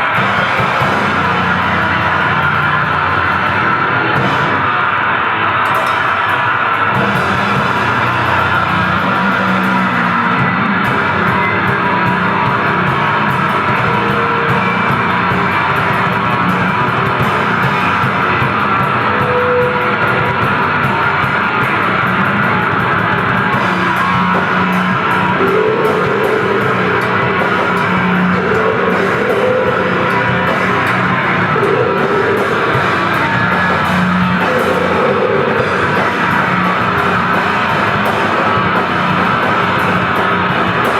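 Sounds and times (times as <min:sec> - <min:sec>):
grindcore band playing: 0:00.0 - 0:40.9.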